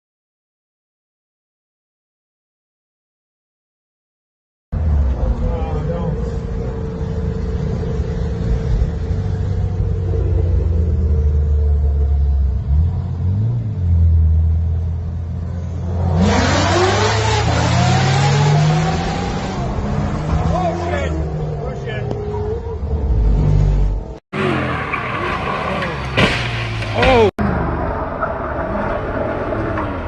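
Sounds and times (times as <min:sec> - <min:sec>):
road and wind noise: 0:04.7 - 0:30.0
car engine revving: 0:04.8 - 0:30.0.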